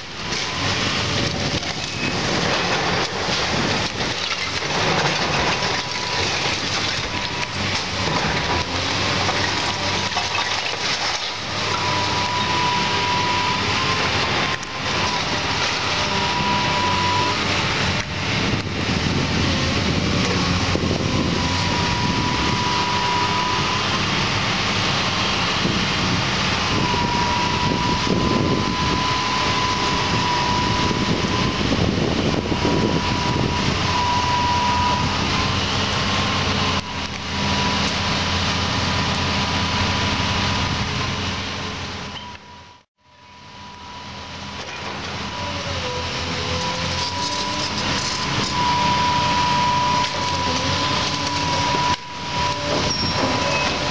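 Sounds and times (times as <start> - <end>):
excavator diesel engine running: 0.0 - 53.9
wavering high whine: 0.0 - 53.9.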